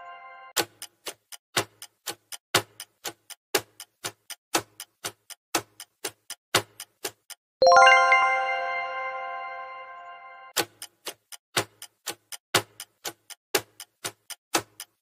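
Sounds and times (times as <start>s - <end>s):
ticking clock countdown: 0.5s - 9.6s, 10.5s - 15.0s.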